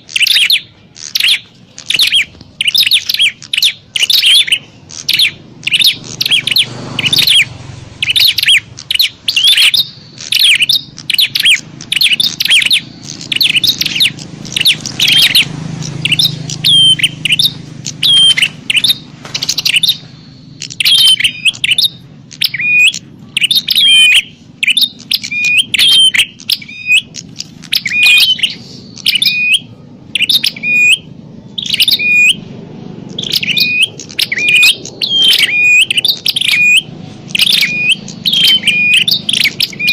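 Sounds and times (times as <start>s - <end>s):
songbirds chirping agitatedly: 0.0s - 39.9s.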